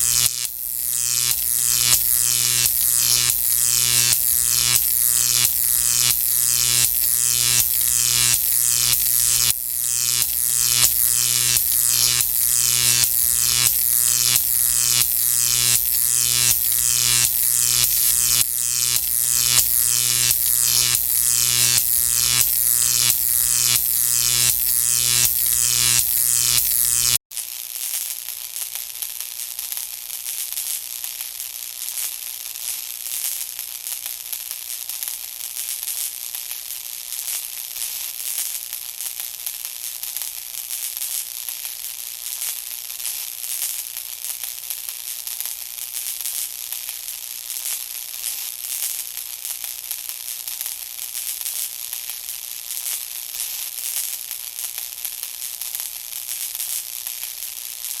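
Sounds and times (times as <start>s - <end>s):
electric arc crackling: 0.0s - 27.2s, 27.9s - 58.0s.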